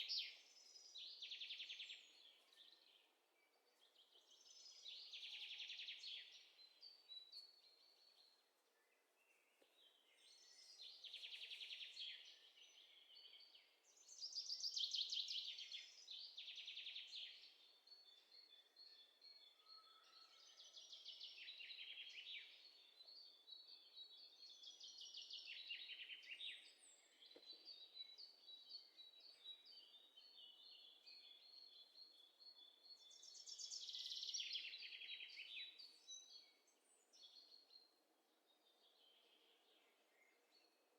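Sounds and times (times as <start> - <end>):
faint birdsong with trills: 0.0 - 40.9.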